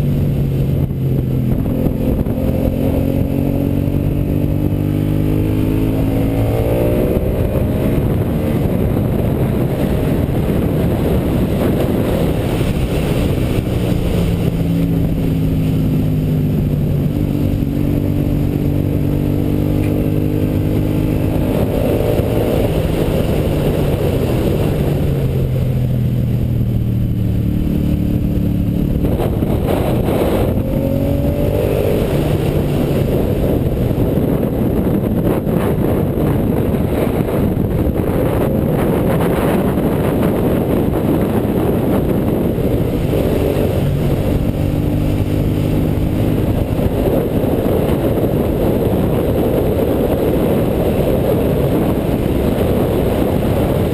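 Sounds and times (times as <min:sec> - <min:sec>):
motorcycle engine revving: 0:00.0 - 0:53.9
wind rush on microphone: 0:00.0 - 0:53.9.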